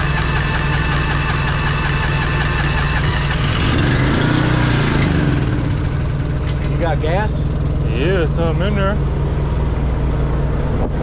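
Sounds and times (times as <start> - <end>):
gasoline motor running: 0.0 - 11.0.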